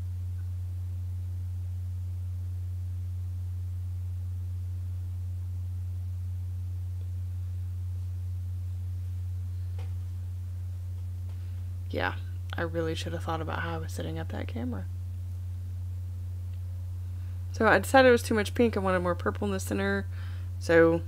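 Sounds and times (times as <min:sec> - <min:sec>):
low-pitched hum: 0:00.0 - 0:21.0.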